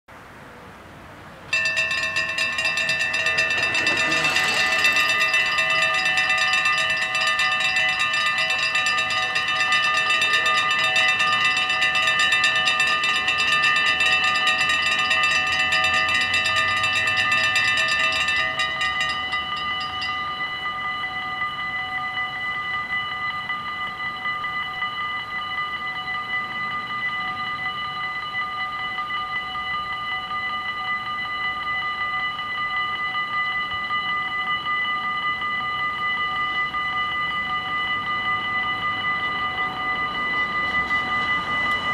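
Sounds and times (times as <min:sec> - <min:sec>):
level crossing bells ringing: 0:01.5 - 0:41.9.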